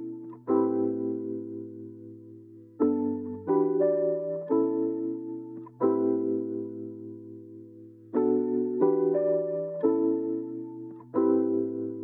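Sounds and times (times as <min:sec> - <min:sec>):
soft keyboard chords: 0:00.0 - 0:12.0.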